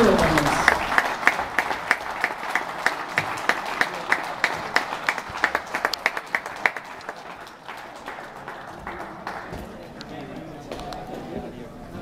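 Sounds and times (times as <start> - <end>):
sharp claps: 0.0 - 11.0
audience applauding: 0.0 - 11.3.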